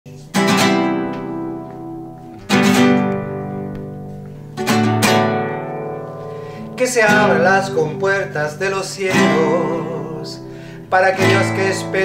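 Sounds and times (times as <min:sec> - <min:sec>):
acoustic guitar strumming: 0:00.1 - 0:12.0.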